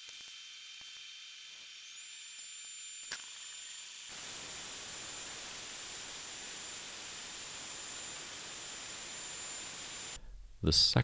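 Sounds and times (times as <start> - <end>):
fuller hiss of drilling: 0.0 - 10.2
router spindle high whine: 0.0 - 10.2.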